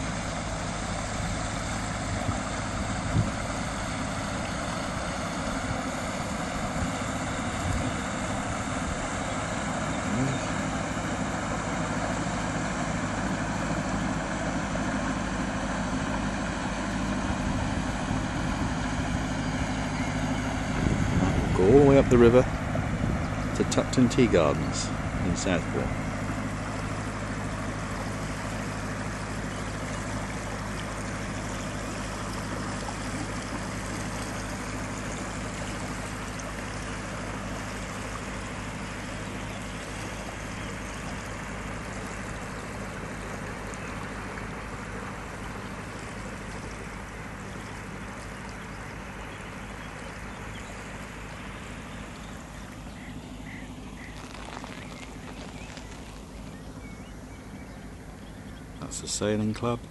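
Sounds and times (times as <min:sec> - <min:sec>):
boat engine humming: 0:00.0 - 0:59.9
rushing water noise: 0:00.0 - 0:59.9.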